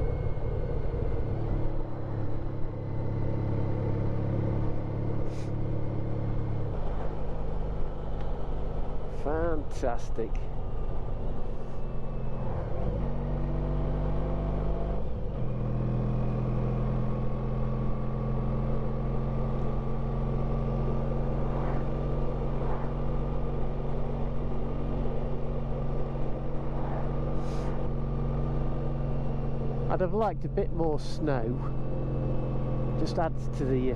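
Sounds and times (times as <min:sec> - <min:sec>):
road and wind noise: 0:00.0 - 0:33.9.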